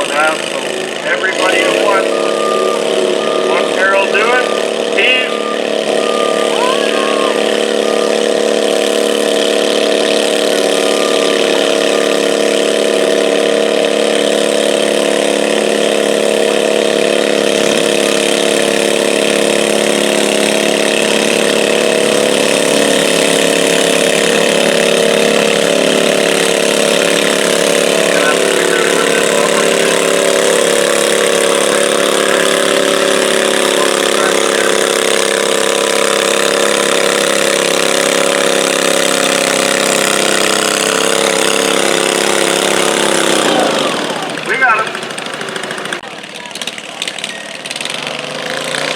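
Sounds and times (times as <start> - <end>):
tractor engine idling: 0.0 - 48.9.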